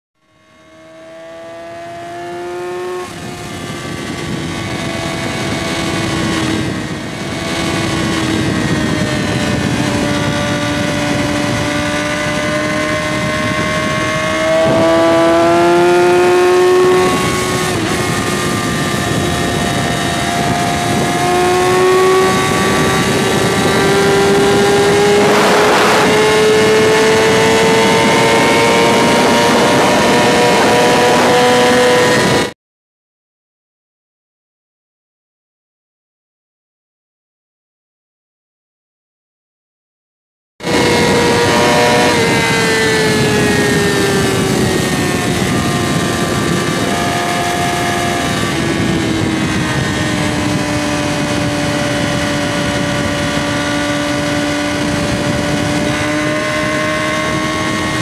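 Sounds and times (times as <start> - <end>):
motorcycle engine at high revs: 0.4 - 32.6, 40.6 - 58.0
wind rush: 1.2 - 32.6, 40.6 - 58.0.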